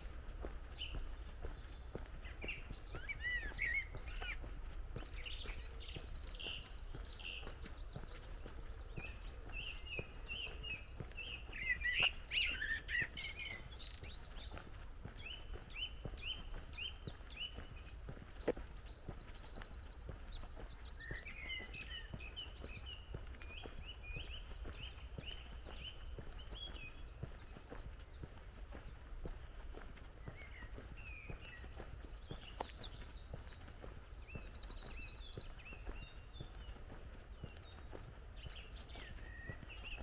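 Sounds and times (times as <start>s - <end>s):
songbirds chirping and singing: 0.0s - 40.0s.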